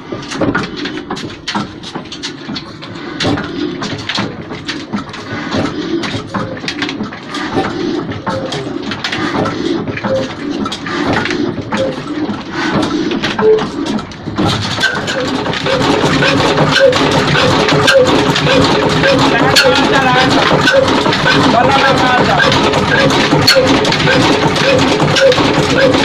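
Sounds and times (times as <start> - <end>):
diesel engine starting: 0.1 - 26.0.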